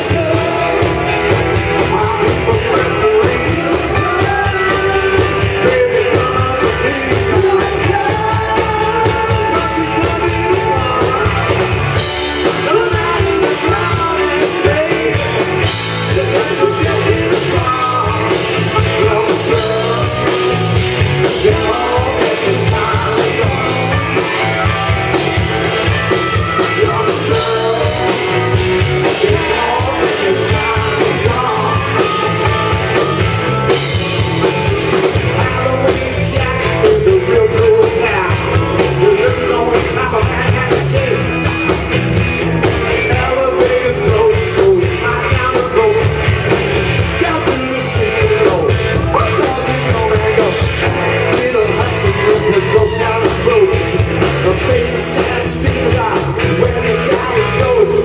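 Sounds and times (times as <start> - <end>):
bass guitar: 0.0 - 58.0
drum kit beat: 0.0 - 58.0
electric guitars: 0.0 - 58.0
lead vocal singing: 0.0 - 58.0.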